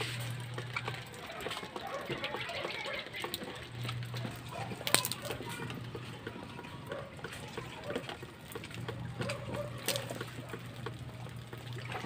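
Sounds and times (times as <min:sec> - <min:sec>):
water trickling into plastic bottle: 0:00.0 - 0:12.0.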